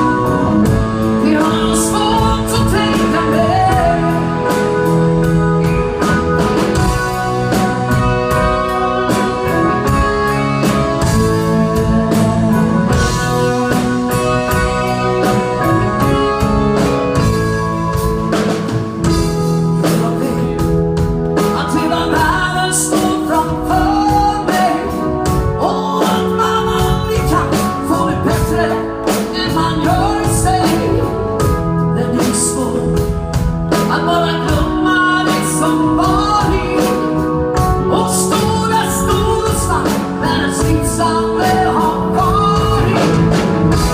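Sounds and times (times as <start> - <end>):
band playing: 0.0 - 43.9
lead singer singing: 0.0 - 43.9.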